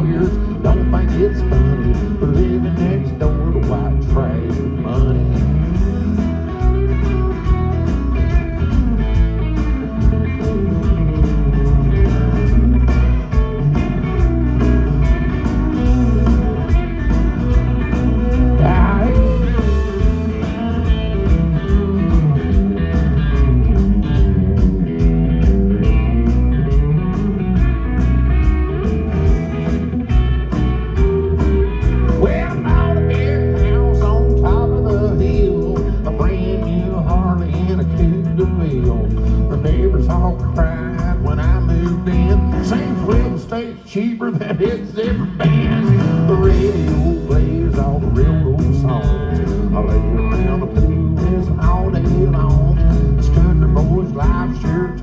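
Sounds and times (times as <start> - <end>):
country band playing: 0.0 - 55.0
guitar: 0.0 - 55.0.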